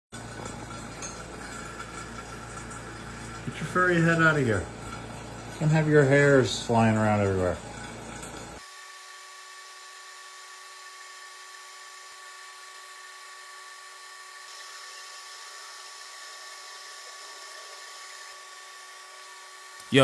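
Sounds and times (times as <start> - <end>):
small motor whining: 0.2 - 20.0.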